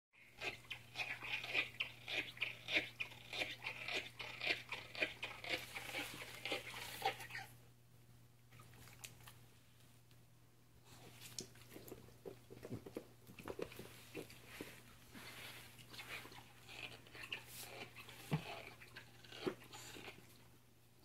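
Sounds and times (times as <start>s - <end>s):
dog chewing and crunching: 0.3s - 7.5s, 10.9s - 20.5s.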